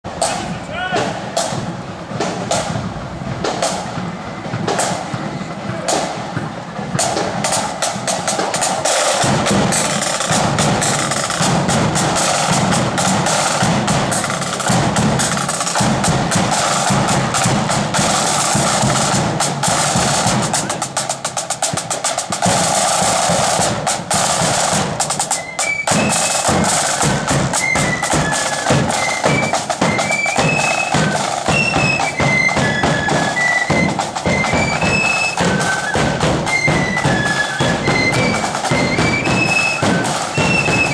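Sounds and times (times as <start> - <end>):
flute melody: 0.1 - 40.9
snare drums and bass drum: 0.1 - 40.9.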